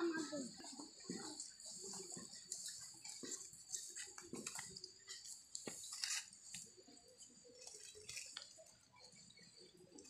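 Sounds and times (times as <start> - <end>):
small water splashes and drips: 0.4 - 10.0.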